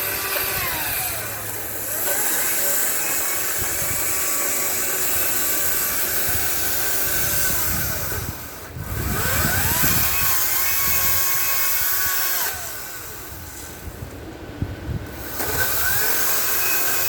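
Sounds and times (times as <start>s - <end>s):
battery chainsaw whining: 0.0s - 14.2s, 15.0s - 17.0s.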